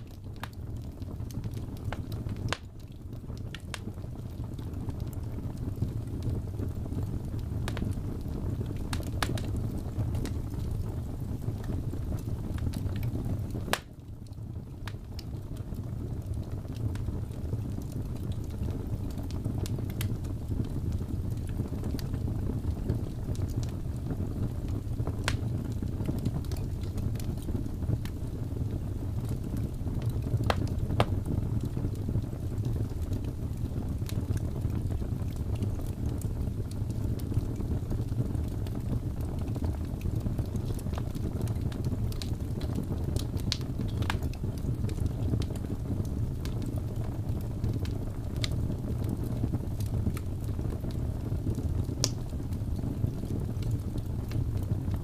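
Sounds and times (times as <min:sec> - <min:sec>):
fire crackles and pops: 0:00.0 - 0:55.0
fire flames rumbling: 0:00.0 - 0:55.0.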